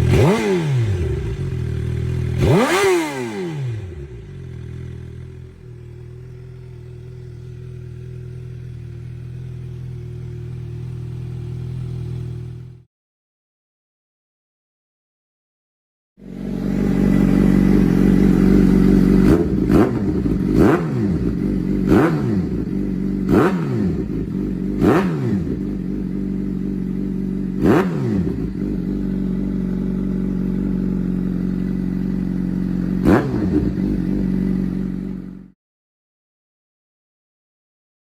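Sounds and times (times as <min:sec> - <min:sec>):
motorcycle engine idling and revving: 0:00.0 - 0:12.9, 0:16.2 - 0:35.6.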